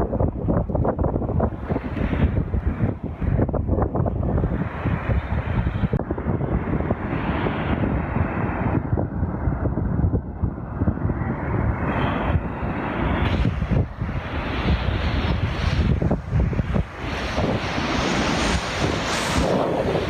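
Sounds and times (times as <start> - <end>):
surf washing in: 0.0 - 20.0
wind buffeting microphone: 0.0 - 20.0.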